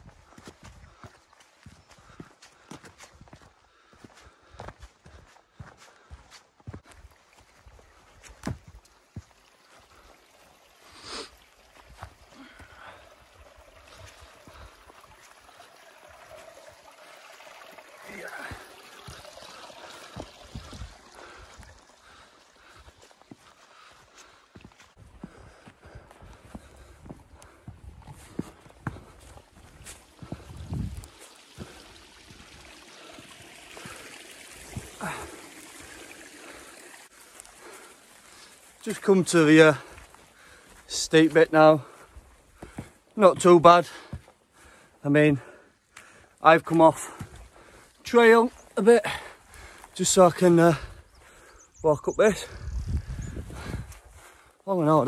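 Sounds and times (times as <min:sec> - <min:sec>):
footsteps on stony ground: 0:00.0 - 0:10.5, 0:11.7 - 0:13.0, 0:18.1 - 0:34.0, 0:34.6 - 0:51.6, 0:52.3 - 0:55.0
stream trickling over rocks: 0:00.0 - 0:55.0.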